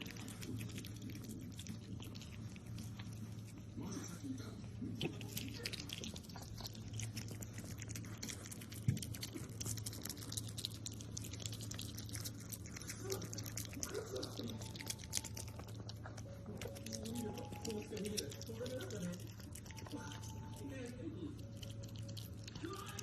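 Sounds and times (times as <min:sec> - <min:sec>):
otter chewing food: 0:00.0 - 0:23.0.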